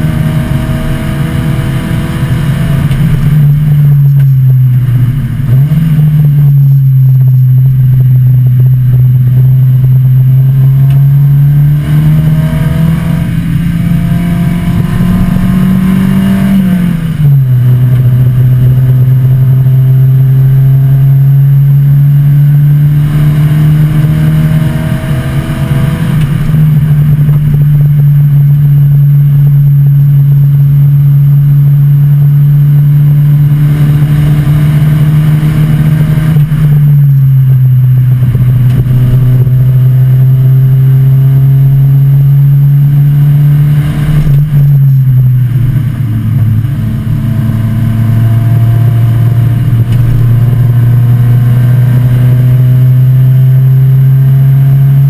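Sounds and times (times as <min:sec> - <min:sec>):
race car engine under power: 0:00.0 - 0:55.0.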